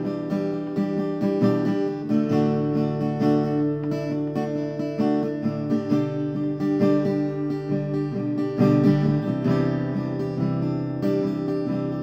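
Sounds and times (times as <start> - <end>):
acoustic guitar tune: 0.0 - 12.0.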